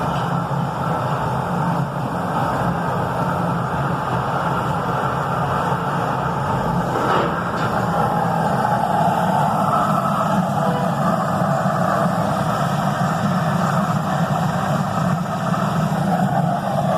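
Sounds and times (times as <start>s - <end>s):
forklift engine running: 0.0s - 16.9s.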